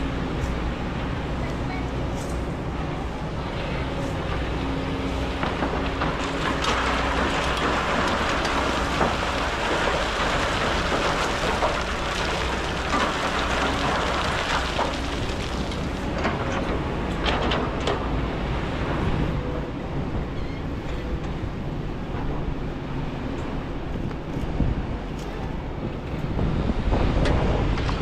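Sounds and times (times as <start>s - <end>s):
excavator diesel engine: 0.0s - 24.4s.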